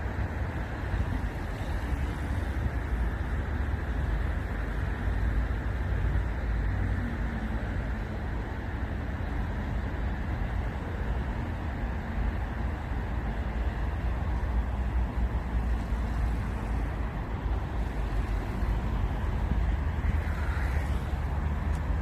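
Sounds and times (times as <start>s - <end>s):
wind through dry reeds: 0.0s - 22.0s.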